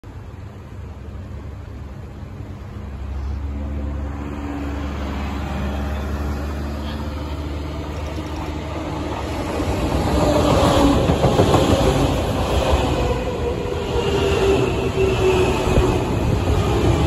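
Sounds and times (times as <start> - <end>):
electric train motors growling: 3.0 - 17.0.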